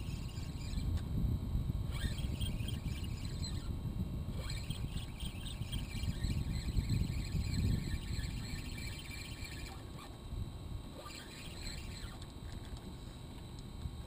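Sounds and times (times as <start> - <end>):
reel squeaking: 0.0 - 1.0, 1.9 - 10.2, 10.9 - 12.8
steady low rumble: 0.0 - 14.0.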